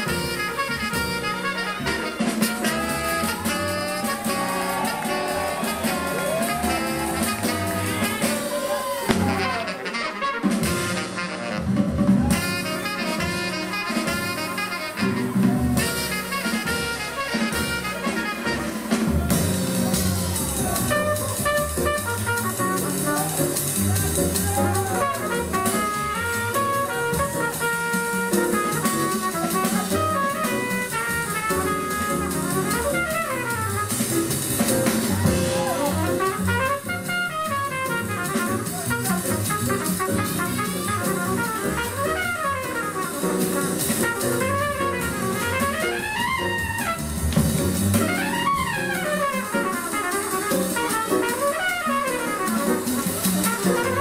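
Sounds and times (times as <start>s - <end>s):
jazz dance music: 0.0s - 54.0s.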